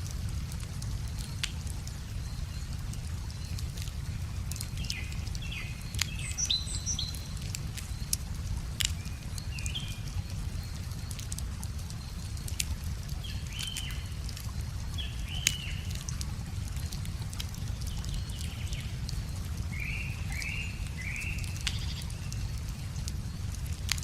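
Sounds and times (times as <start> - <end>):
wood fire crackling and popping: 0.0 - 6.2, 7.0 - 19.7, 20.8 - 24.0
river water flowing: 0.0 - 24.0.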